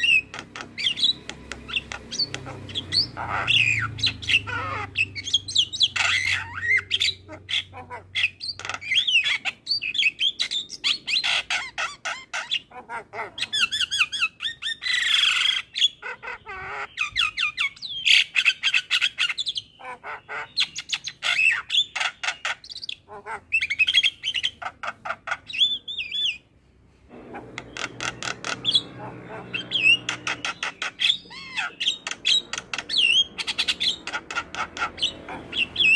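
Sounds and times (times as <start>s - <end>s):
bird singing varied song: 0.0s - 35.9s.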